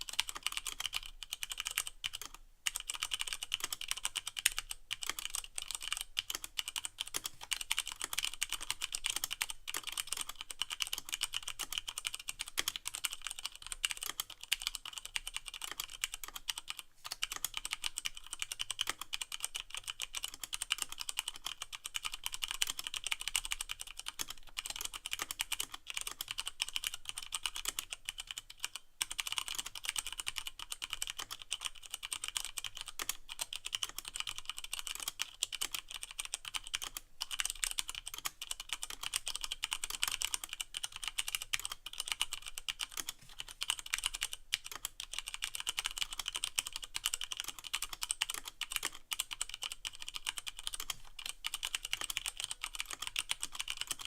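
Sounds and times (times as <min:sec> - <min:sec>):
fast mechanical keyboard typing: 0:00.0 - 0:54.0.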